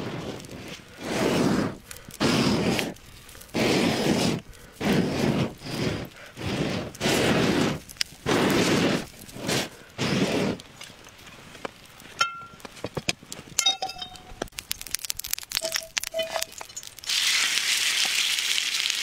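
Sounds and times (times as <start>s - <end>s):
fire crackle: 0.0s - 19.0s
stick scraping embers: 0.0s - 19.0s.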